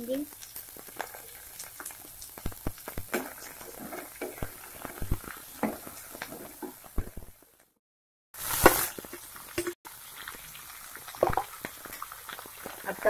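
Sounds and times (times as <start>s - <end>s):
faint sizzle of frying vegetables: 0.0s - 7.8s, 8.4s - 13.0s.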